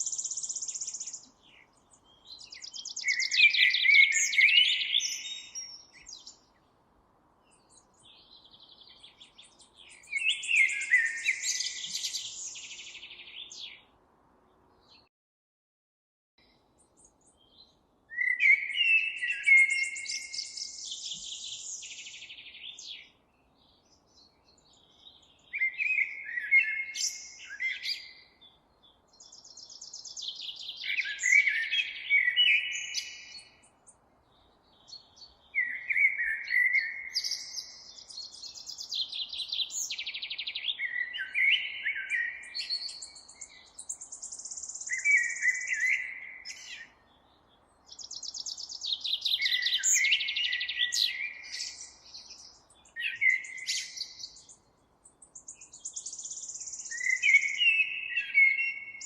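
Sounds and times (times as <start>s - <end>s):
songbird singing: 0.0s - 15.1s, 16.4s - 59.0s.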